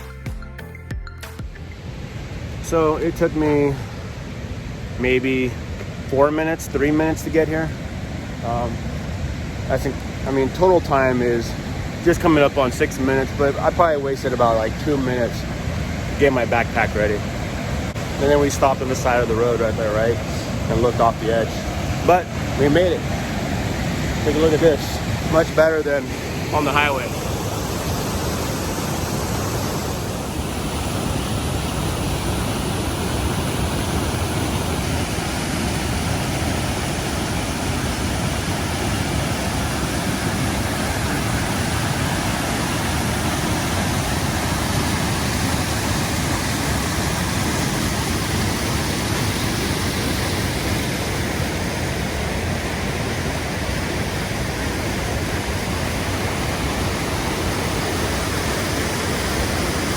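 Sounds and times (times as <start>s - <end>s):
water rushing in a cascade: 2.5s - 59.9s.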